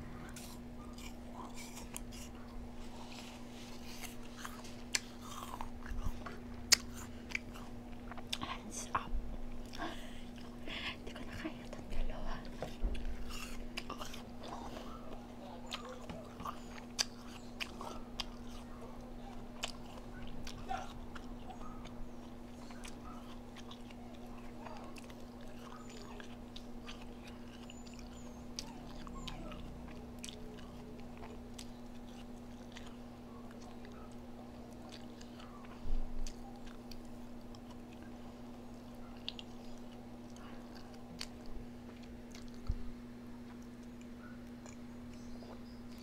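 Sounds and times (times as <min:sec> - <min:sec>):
chewing and biting crunchy food: 0:00.0 - 0:46.0
low hum: 0:00.0 - 0:46.0.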